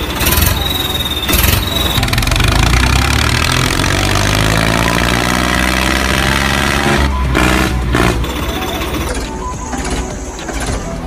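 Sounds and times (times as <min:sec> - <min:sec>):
engine humming steadily: 0:00.0 - 0:11.0
steady high tone: 0:00.0 - 0:11.0.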